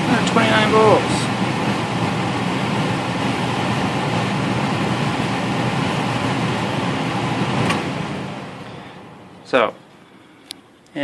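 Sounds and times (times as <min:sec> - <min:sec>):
blower fan whooshing: 0:00.0 - 0:11.0.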